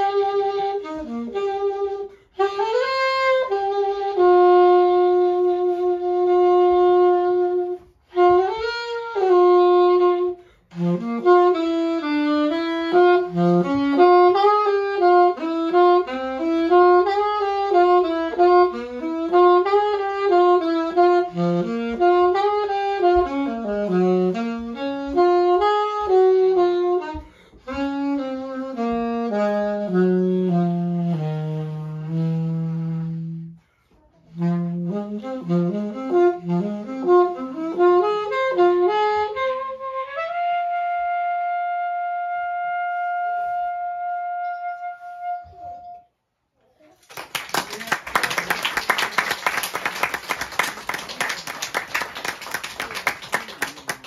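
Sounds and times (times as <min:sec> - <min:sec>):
solo saxophone melody: 0:00.0 - 0:46.4.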